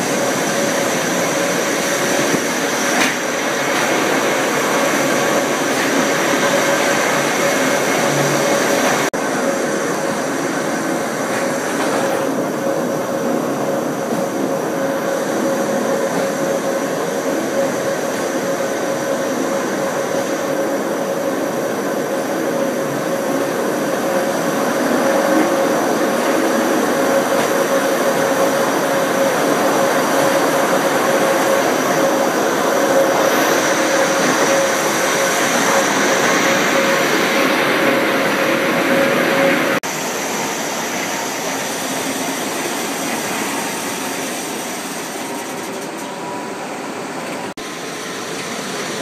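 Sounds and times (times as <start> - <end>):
rack railcar mechanical drone: 0.0 - 49.0.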